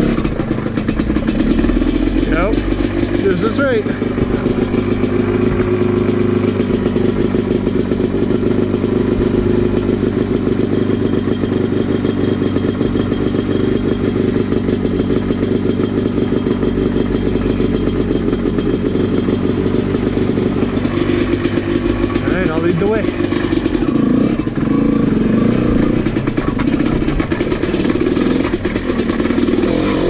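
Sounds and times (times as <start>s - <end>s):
dirt bike engine idling: 0.0s - 30.0s.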